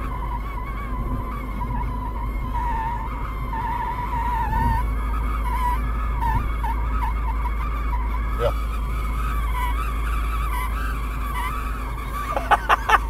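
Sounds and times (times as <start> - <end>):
road and engine rumble: 0.0 - 13.0
wavering air whistle: 0.0 - 13.0.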